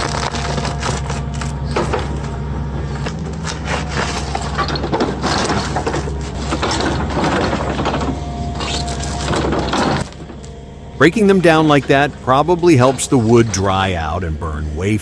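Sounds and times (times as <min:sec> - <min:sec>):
wood cracking and splintering: 0:00.0 - 0:14.3
excavator diesel engine running: 0:00.0 - 0:15.0.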